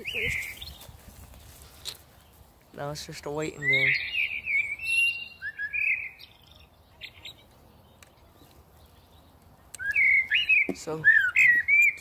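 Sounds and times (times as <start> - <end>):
blackbird chirps: 0.0 - 1.0, 1.8 - 12.0.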